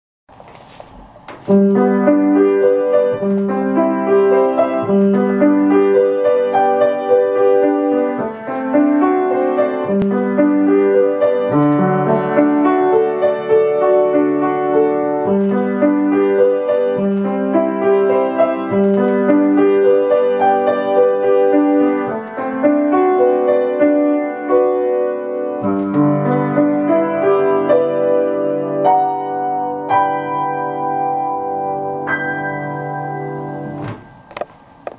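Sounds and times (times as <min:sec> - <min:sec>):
solo grand piano: 0:00.3 - 0:34.9.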